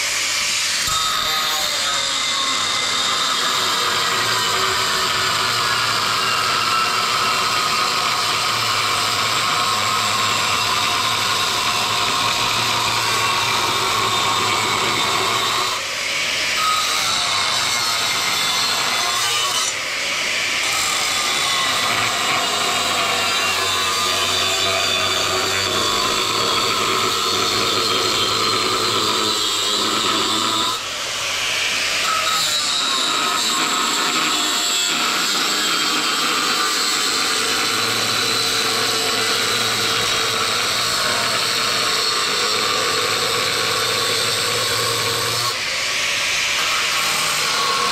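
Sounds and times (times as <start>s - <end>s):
angle grinder cutting steel: 0.0s - 47.9s.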